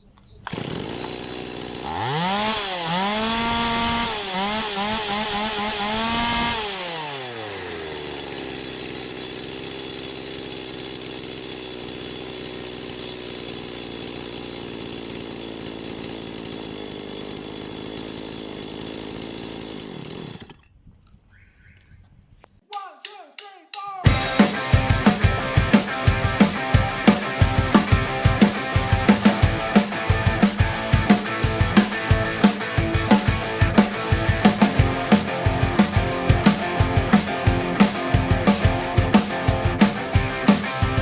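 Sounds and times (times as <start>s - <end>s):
chainsaw engine revving and idling: 0.4s - 20.6s, 24.1s - 41.0s.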